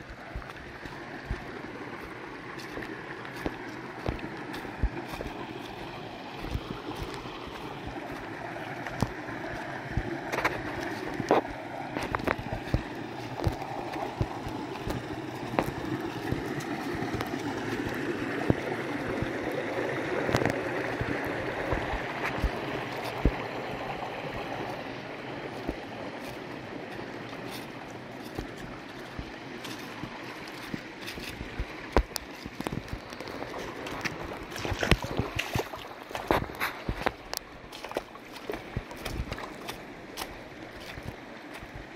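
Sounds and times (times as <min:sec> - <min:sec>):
creek water rushing over rocks: 0:00.0 - 0:41.9.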